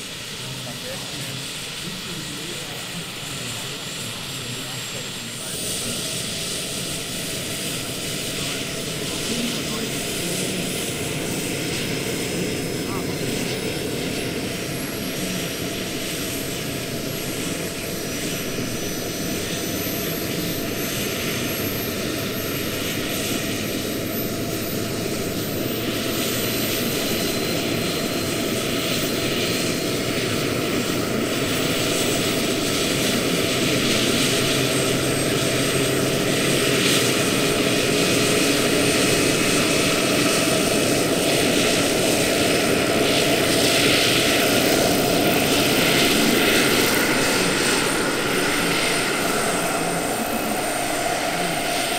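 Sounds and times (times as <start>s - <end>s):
high turbine whine: 0.0s - 51.9s
model helicopter rotors and engine: 0.0s - 51.9s.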